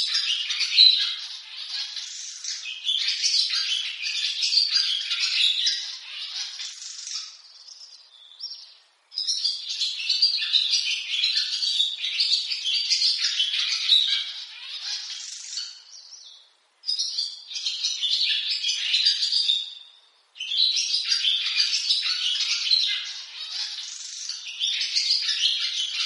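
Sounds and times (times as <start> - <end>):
swallow twittering song: 0.0 - 26.0.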